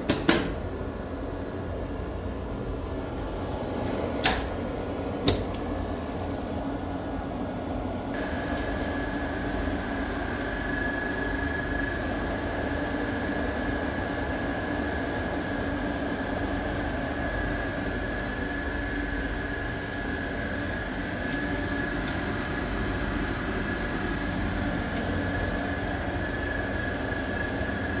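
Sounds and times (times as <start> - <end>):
low hum: 0.7 - 28.0
high-pitched elevator whine: 0.8 - 28.0.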